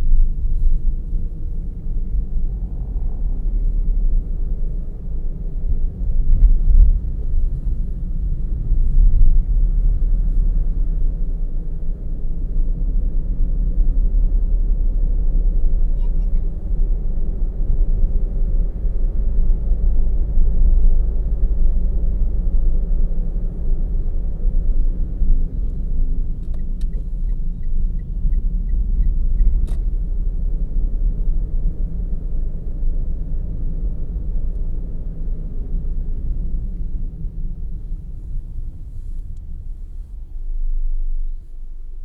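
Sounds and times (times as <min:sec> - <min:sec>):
car engine and tyre noise: 0:00.0 - 0:42.0.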